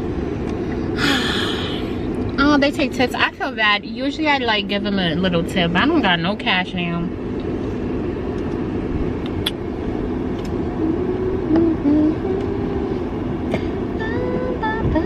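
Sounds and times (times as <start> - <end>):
car idling: 0.0 - 15.0.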